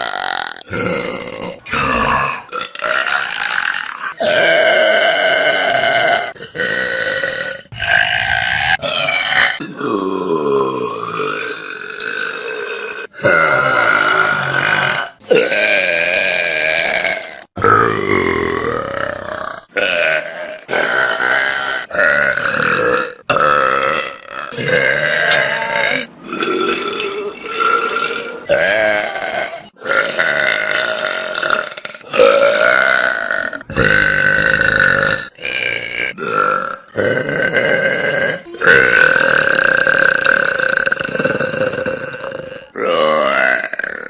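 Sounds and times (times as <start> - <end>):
loud drawn-out burps: 0.0 - 44.0.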